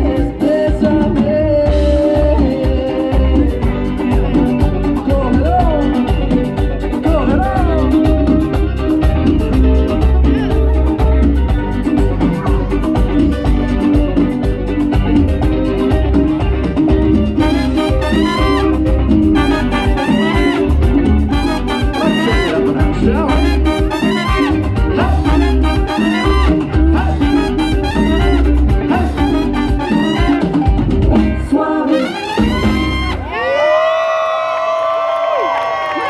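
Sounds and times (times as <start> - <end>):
live band playing latin music: 0.0 - 35.1.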